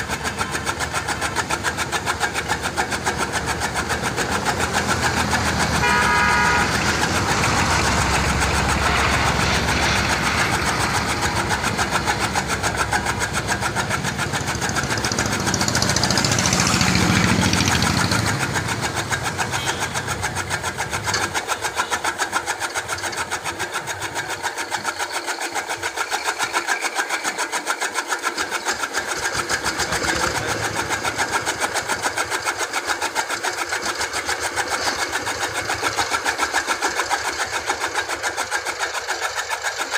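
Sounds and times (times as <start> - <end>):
straw chopper clattering: 0.0 - 39.9.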